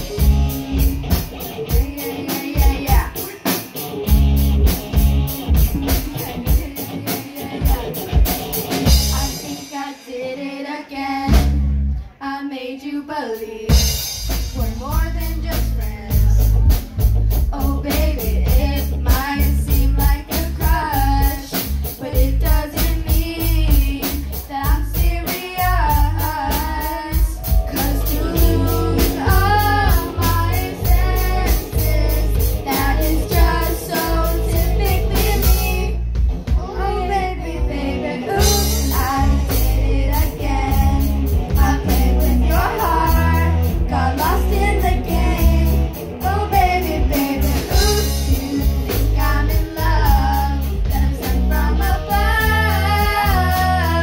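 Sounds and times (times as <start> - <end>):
girls singing: 0.0 - 3.8, 5.5 - 16.5, 17.5 - 54.0
electric guitar: 0.0 - 10.0, 13.7 - 54.0
drum kit: 0.0 - 10.3, 11.2 - 12.1, 13.4 - 54.0.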